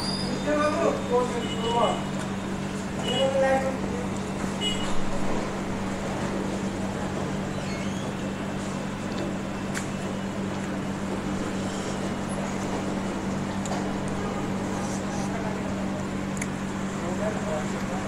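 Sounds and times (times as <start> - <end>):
low mechanical hum: 0.0 - 18.0
noisy background: 0.0 - 18.0.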